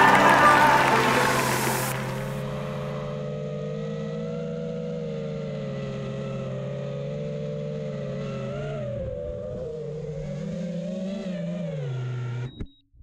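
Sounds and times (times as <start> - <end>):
drone motors whining: 0.0 - 12.7.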